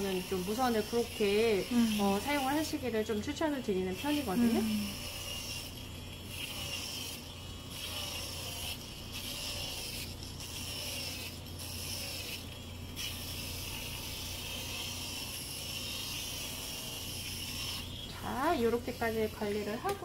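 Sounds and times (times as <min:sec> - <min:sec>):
foot drill humming: 0:00.0 - 0:20.0
sanding pad rasping on skin: 0:00.0 - 0:20.0.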